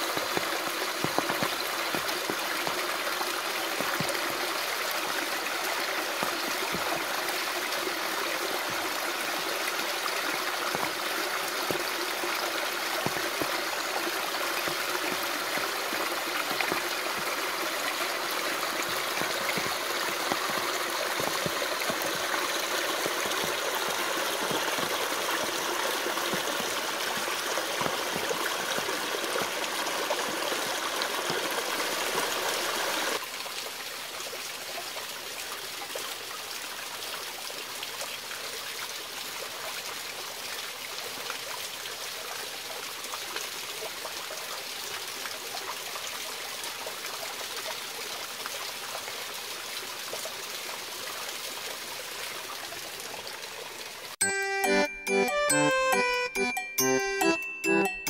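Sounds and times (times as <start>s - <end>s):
stream water cascading over rocks: 0.0s - 58.0s.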